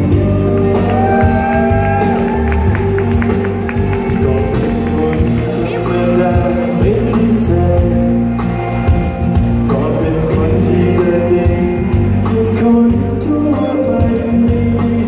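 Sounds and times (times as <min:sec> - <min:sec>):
man singing into microphone: 0:00.0 - 0:02.3, 0:04.0 - 0:08.5, 0:09.3 - 0:15.0
pop backing track: 0:00.0 - 0:15.0.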